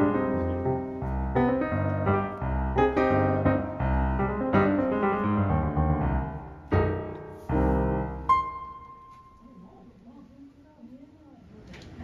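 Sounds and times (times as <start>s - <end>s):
piano music: 0.0s - 9.8s.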